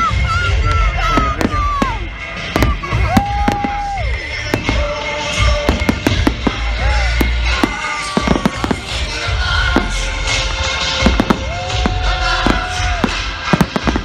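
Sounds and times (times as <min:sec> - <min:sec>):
fireworks bangs and crackles: 0:00.0 - 0:14.0
pop music with bass beat: 0:00.0 - 0:14.0.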